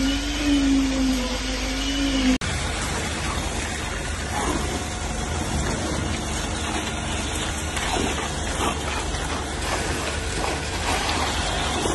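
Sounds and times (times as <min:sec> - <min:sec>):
concrete pump hum: 0:00.0 - 0:11.9.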